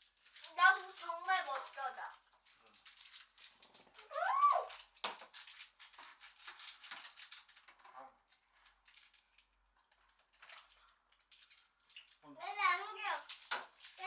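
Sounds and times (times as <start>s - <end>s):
small objects clicking and rustling: 0.0s - 14.0s.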